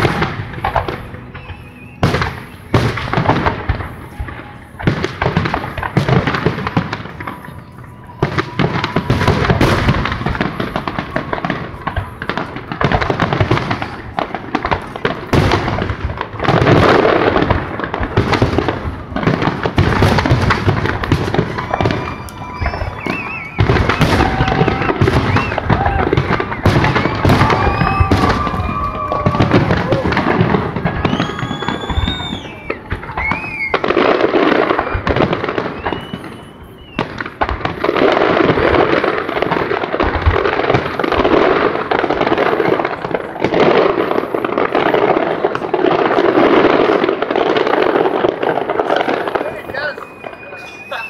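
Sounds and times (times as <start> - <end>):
firework booms and crackles: 0.0 - 51.0.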